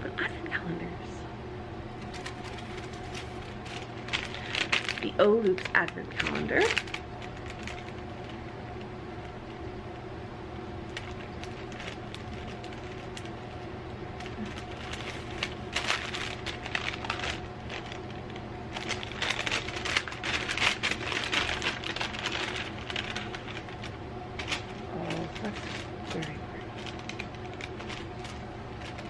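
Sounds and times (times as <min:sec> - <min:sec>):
steady low hum: 0:00.0 - 0:29.0
wrapping crinkling and tearing: 0:01.9 - 0:10.0, 0:10.6 - 0:29.0.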